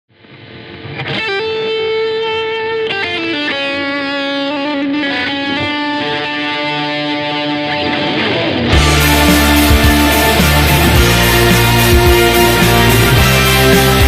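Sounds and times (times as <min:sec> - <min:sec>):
overdriven electric guitar lead: 0:00.1 - 0:14.0
backing track: 0:00.9 - 0:14.0.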